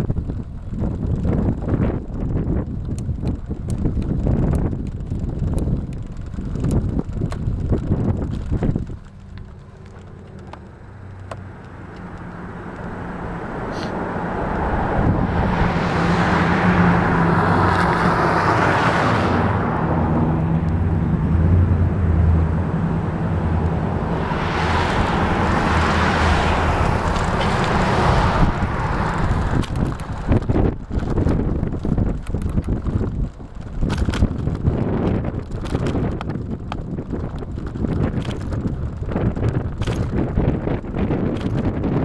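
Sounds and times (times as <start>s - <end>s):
low engine hum: 0.0s - 42.0s
vehicles passing: 0.0s - 42.0s.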